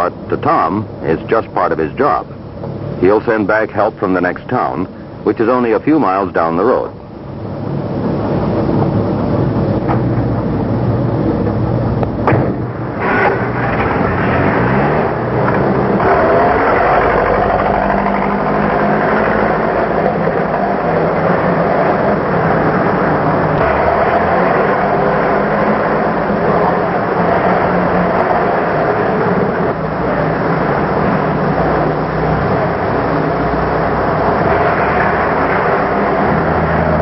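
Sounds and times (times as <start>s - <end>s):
truck engine pulling away: 0.0s - 37.0s.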